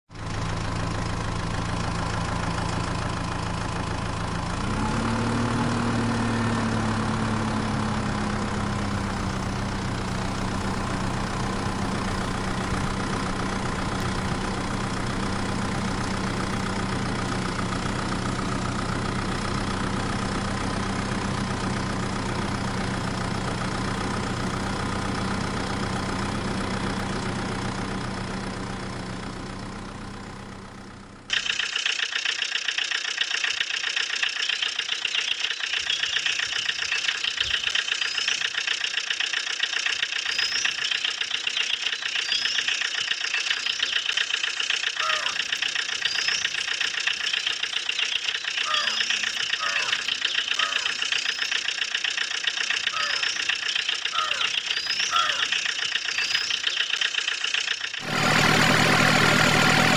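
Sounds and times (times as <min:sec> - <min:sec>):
vehicle engine idling and revving: 0:00.1 - 0:59.9.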